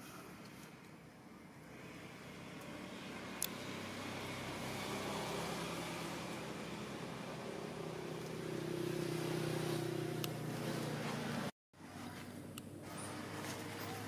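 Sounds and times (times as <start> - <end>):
engine running with low hum: 0.5 - 14.0.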